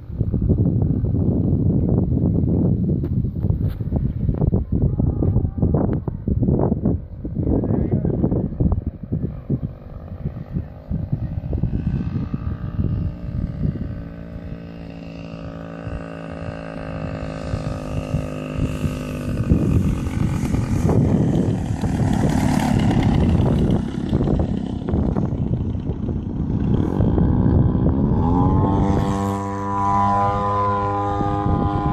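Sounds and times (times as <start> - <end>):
model airplane engine running: 6.0 - 31.9.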